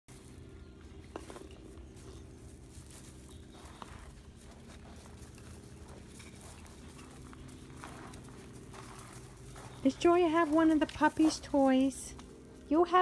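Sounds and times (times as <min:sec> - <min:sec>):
low motor drone: 0:00.1 - 0:13.0
paws scuffling on gravel: 0:00.1 - 0:13.0.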